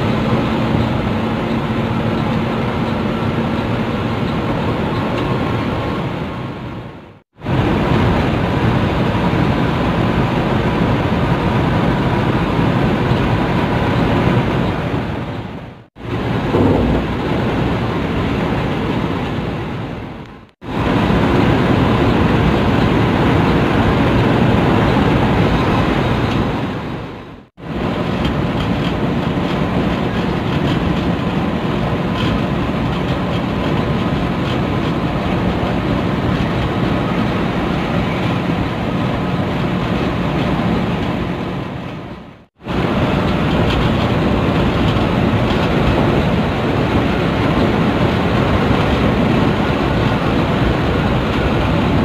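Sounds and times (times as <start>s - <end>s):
coach engine and road noise: 0.0s - 52.0s.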